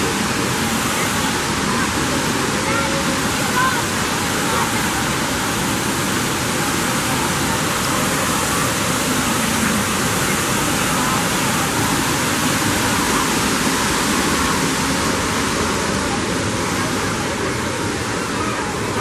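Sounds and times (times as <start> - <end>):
indistinct voices: 0.0 - 19.0
water falling and splashing: 0.0 - 19.0.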